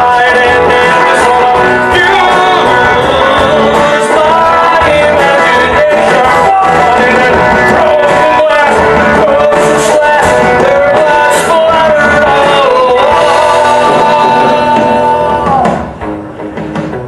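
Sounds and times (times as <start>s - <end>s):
high melody line: 0.0s - 16.0s
live rock band playing loudly: 0.0s - 17.0s.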